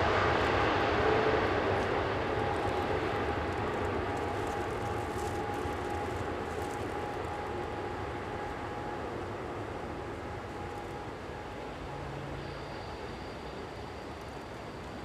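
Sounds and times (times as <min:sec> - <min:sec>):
engine drone: 0:00.0 - 0:15.0
faint steady hum: 0:00.0 - 0:15.0.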